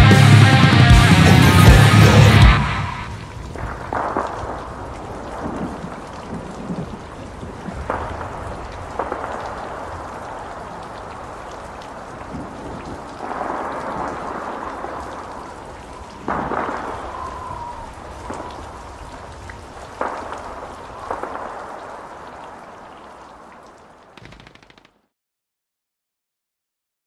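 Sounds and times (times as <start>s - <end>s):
steady rain hiss: 0.1s - 24.9s.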